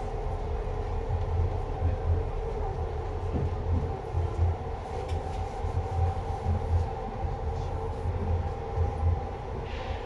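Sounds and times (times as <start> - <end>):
subway train motor hum: 0.0 - 10.0
train pulsing rumble: 0.0 - 10.0.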